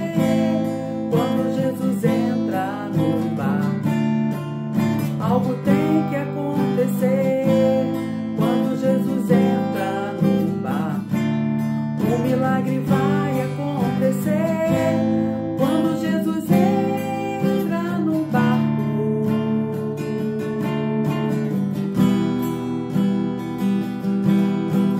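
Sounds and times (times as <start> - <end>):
acoustic guitar strumming: 0.0 - 24.9.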